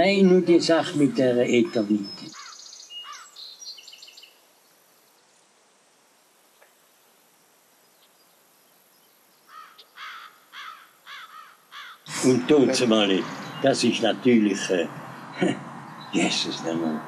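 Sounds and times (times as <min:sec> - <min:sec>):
repeated bird calls: 0:00.0 - 0:05.4, 0:07.7 - 0:17.0
high bird chirping: 0:00.2 - 0:05.2, 0:07.8 - 0:17.0.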